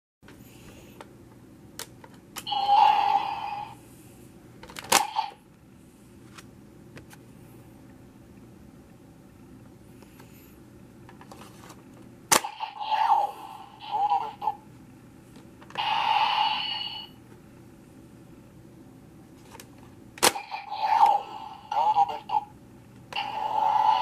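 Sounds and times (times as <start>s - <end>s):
low room hum: 0.2s - 24.0s.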